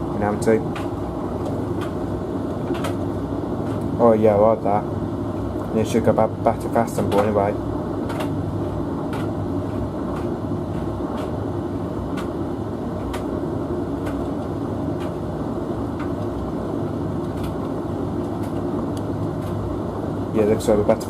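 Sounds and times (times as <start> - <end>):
washing machine drum hum: 0.0 - 21.0.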